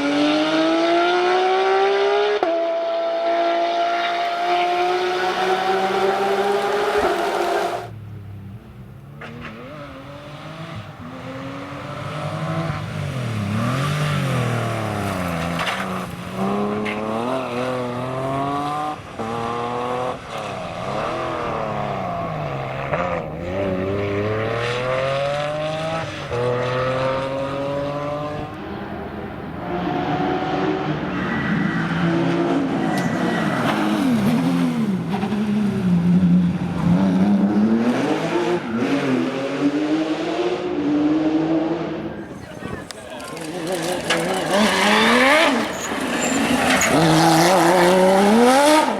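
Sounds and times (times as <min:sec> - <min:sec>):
rally car engine revving: 0:00.0 - 0:08.4, 0:09.2 - 0:48.9.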